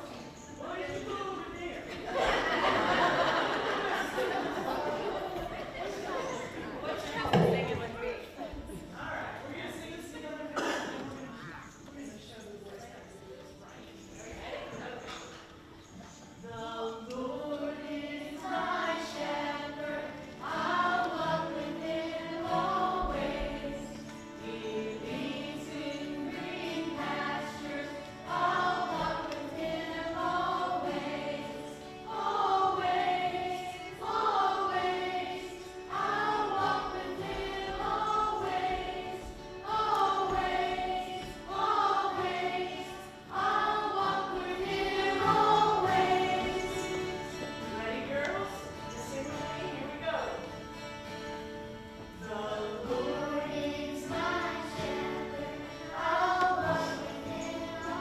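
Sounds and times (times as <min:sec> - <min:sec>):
children singing together: 0:01.9 - 0:07.8, 0:16.4 - 0:50.7, 0:51.3 - 0:58.0.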